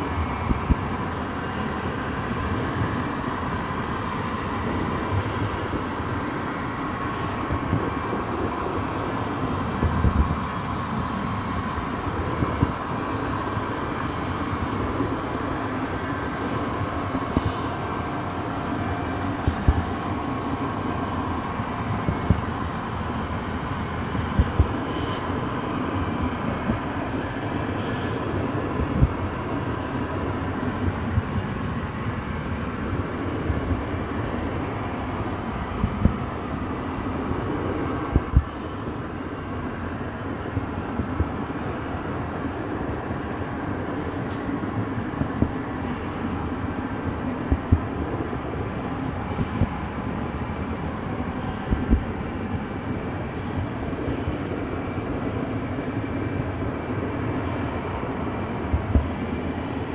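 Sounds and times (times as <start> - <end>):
train running: 0.0 - 59.9.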